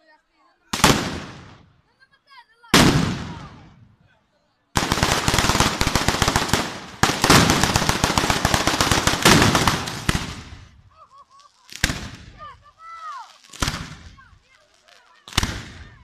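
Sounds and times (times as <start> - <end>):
firecrackers crackling: 0.7 - 1.8, 2.7 - 3.9, 4.8 - 16.0.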